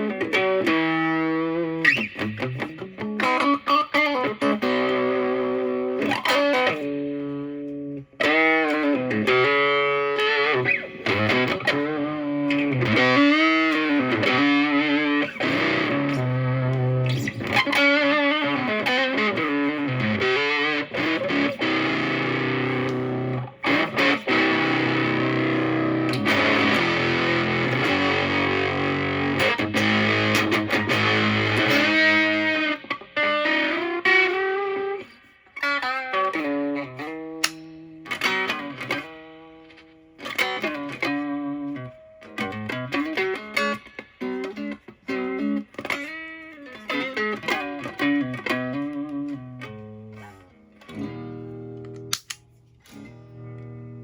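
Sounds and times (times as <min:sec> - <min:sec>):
fuzz electric guitar lead lines: 0:00.0 - 0:52.2, 0:52.8 - 0:54.0
sustained electric guitar chords: 0:00.0 - 0:54.0.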